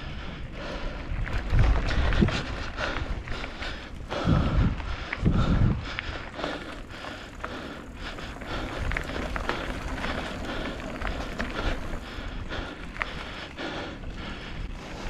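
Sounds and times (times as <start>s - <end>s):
bike clicking and rattling: 0.0s - 15.0s
bike tyres rolling on dirt: 0.0s - 15.0s.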